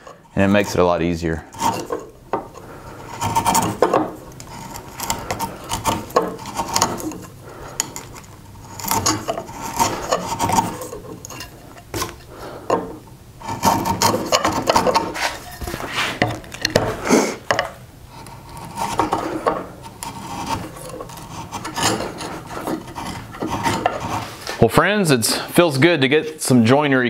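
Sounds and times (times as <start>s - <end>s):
chisel scraping wood: 0.0s - 24.6s.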